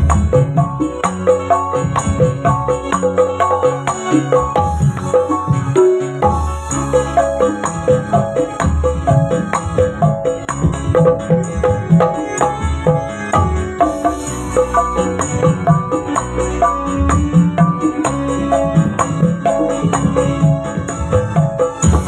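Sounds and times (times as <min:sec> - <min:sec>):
fast drum rhythm: 0:00.0 - 0:22.0.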